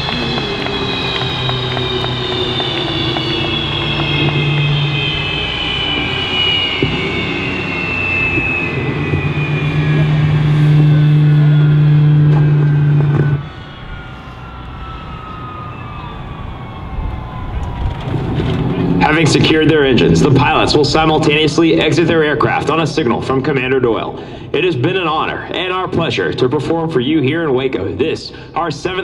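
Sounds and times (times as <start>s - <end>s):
deep steady hum: 0.0s - 29.0s
jet turbine whine falling: 0.0s - 29.0s.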